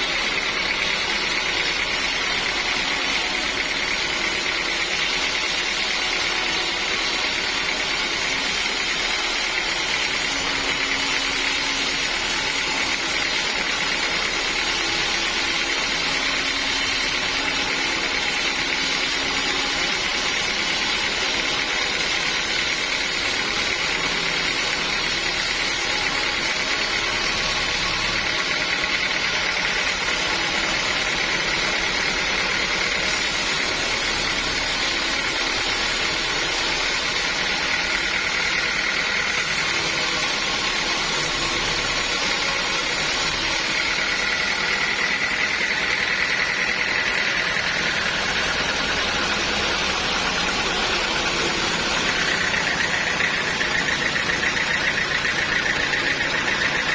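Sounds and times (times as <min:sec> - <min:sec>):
sawmill saw whining: 0:00.0 - 0:56.9.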